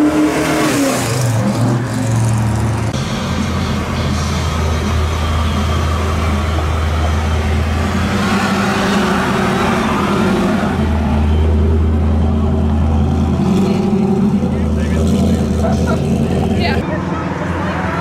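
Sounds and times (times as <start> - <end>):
car engine running: 1.2 - 17.8.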